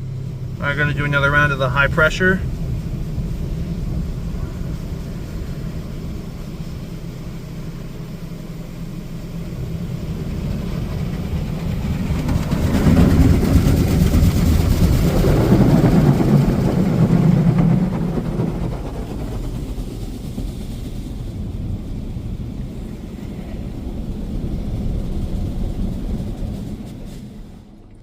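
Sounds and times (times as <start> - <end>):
steady low hum: 0.0 - 28.0
water spray hitting car: 0.4 - 28.0.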